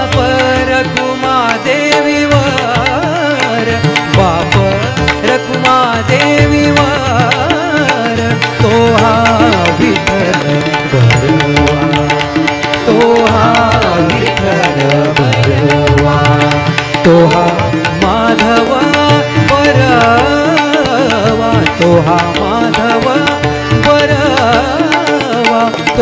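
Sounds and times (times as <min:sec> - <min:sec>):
harmonium chords: 0:00.0 - 0:26.0
person singing: 0:00.0 - 0:26.0
tabla and drum playing: 0:00.0 - 0:26.0.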